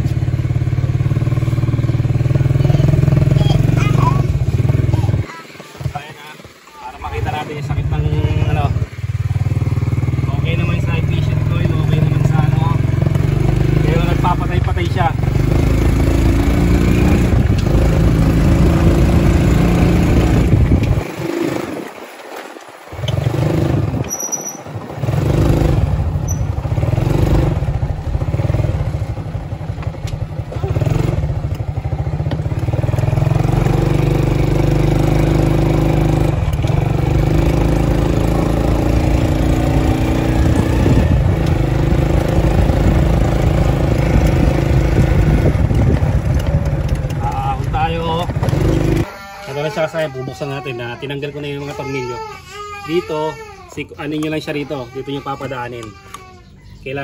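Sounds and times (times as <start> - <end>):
motorcycle engine running: 0.0 - 22.1, 22.7 - 49.4.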